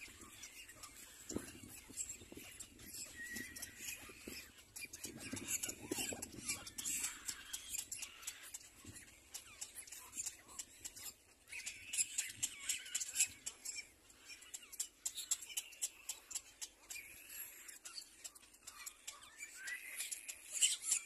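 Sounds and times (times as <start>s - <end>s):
birds chirping: 0.0s - 21.0s
faint squeaky bird calls: 0.0s - 21.0s.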